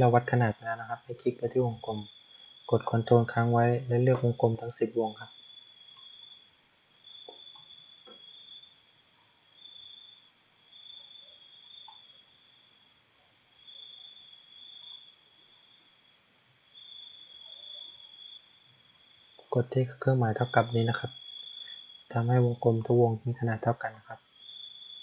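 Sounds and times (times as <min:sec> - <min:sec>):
insects chirping trill: 0:00.0 - 0:25.0.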